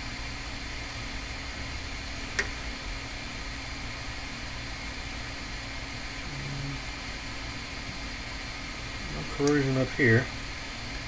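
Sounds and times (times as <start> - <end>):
electrical hum: 0.0 - 11.0
fan-like room noise: 0.0 - 11.0.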